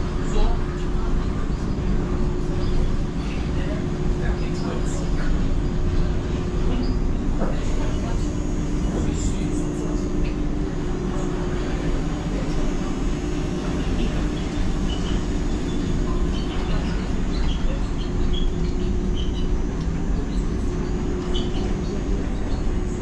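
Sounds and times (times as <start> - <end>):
constant hum: 0.0 - 23.0
monorail rumbling: 0.0 - 23.0.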